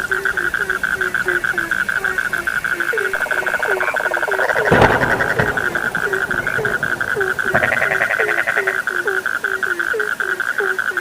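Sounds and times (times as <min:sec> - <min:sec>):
frogs pulsing trill: 0:00.0 - 0:11.0
low frog croaks: 0:00.0 - 0:11.0.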